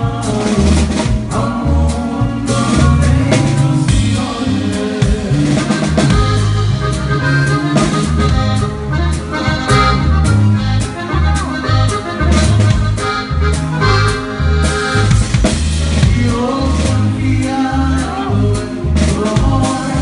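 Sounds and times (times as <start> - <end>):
drum kit beat: 0.0 - 20.0
live band music: 0.0 - 20.0.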